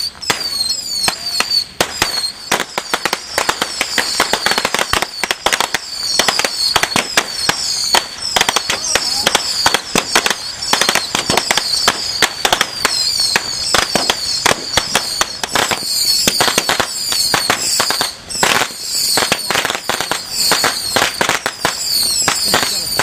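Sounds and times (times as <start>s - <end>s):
firecrackers cracking: 0.0s - 23.0s.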